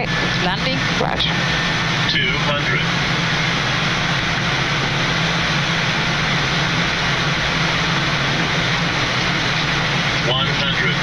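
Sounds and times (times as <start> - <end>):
airflow and engine noise: 0.0 - 11.0
constant low hum: 0.0 - 11.0.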